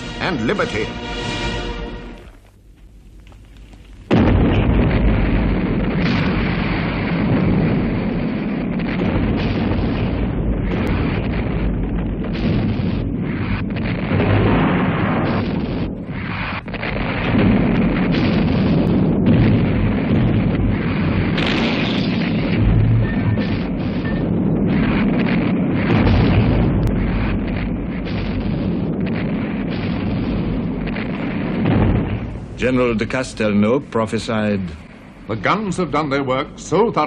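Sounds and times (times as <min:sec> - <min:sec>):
shells bursting: 0:00.0 - 0:37.0
artillery guns firing: 0:03.2 - 0:37.0.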